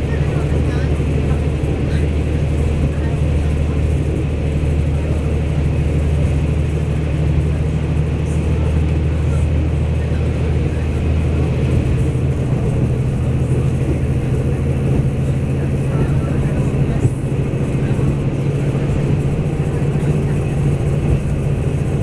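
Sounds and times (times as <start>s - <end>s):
train diesel engine drone: 0.0s - 22.0s.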